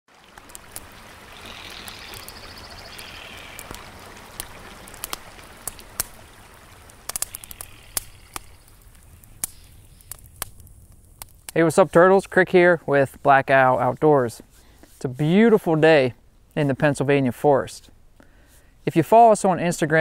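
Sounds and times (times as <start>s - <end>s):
campfire crackling: 0.1s - 19.1s.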